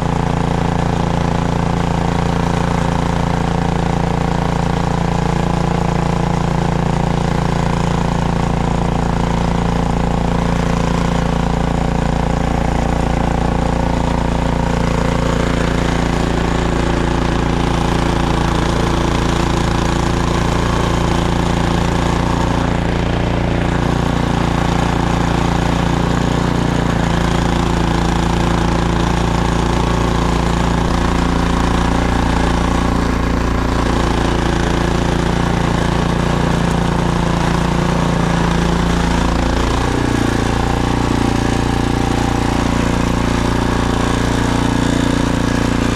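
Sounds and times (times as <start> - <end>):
snowblower engine running: 0.0 - 45.9.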